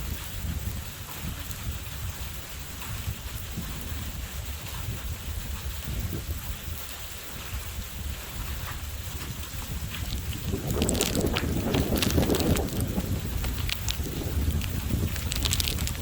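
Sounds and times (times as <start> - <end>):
heavy rain: 0.0 - 16.0
wind buffeting microphone: 0.0 - 16.0
raindrops ticking: 0.1 - 16.0.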